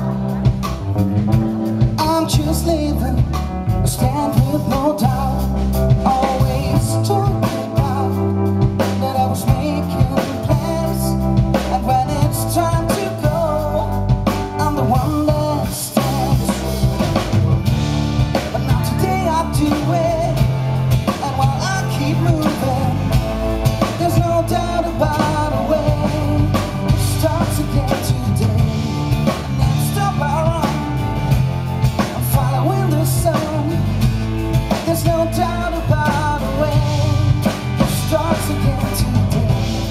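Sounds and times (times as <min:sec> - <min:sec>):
drum kit: 0:00.0 - 0:39.9
electric bass: 0:00.0 - 0:39.9
keyboard: 0:00.0 - 0:39.9
man singing lead vocals: 0:00.0 - 0:39.9.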